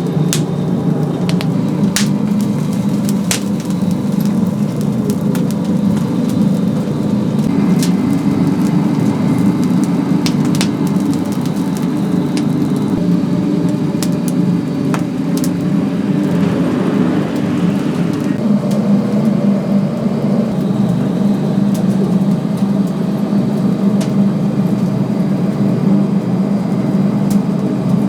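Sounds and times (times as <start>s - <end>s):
fire crackles: 0.0s - 28.0s
wood fire roaring: 0.0s - 28.0s.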